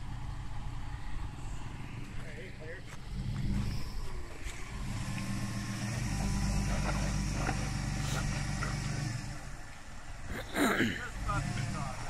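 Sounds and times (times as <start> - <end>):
truck engine under load: 0.0 - 12.0.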